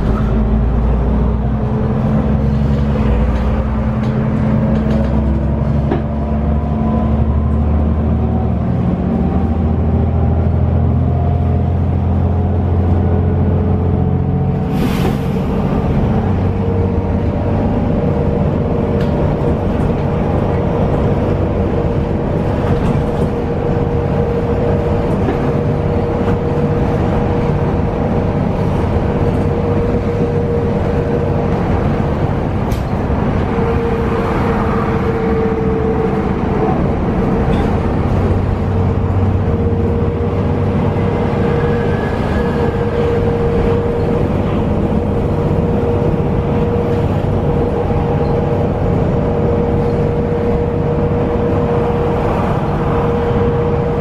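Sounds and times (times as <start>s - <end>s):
bus engine rumble with whine: 0.0s - 54.0s.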